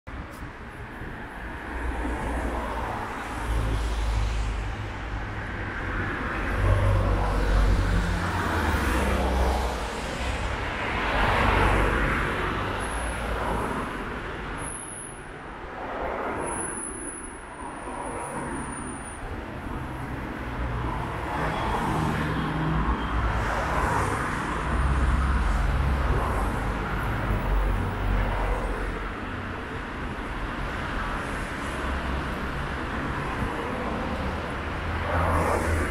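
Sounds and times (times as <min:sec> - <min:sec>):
cars passing: 0:00.2 - 0:35.9.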